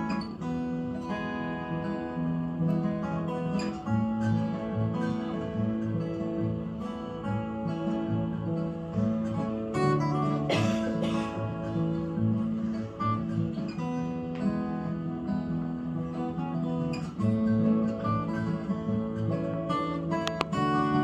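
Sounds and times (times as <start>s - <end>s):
fingerpicked acoustic guitar: 0.0s - 21.0s.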